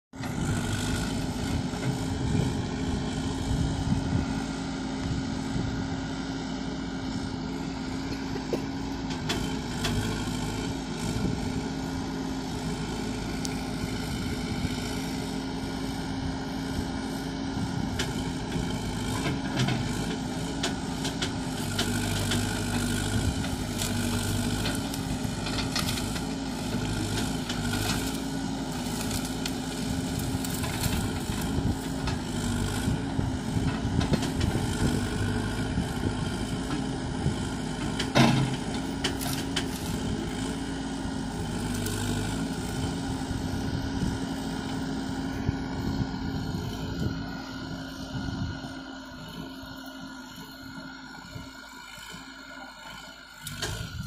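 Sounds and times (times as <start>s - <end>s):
diesel engine running: 0.1s - 54.0s.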